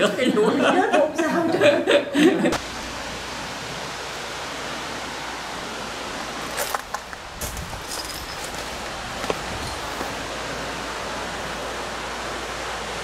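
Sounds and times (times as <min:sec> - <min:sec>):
wind and sea surf: 0:00.0 - 0:13.0.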